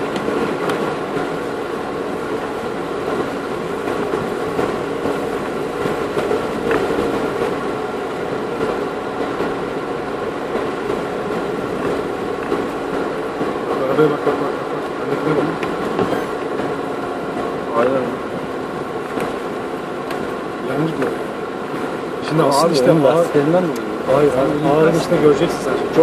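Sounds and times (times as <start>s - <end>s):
off-road vehicle engine drone: 0.0s - 26.0s.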